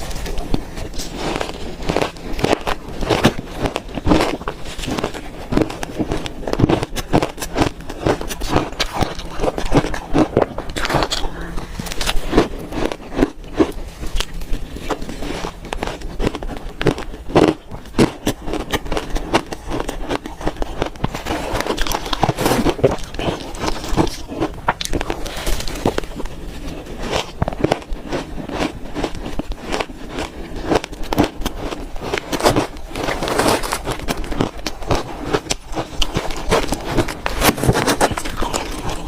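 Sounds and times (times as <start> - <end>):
crunchy shaved ice chewing: 0.0 - 39.0.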